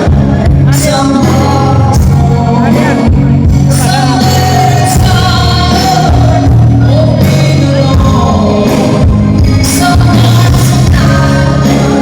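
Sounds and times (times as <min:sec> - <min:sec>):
loud band backing: 0:00.0 - 0:12.0
person singing through a pa: 0:00.0 - 0:12.0.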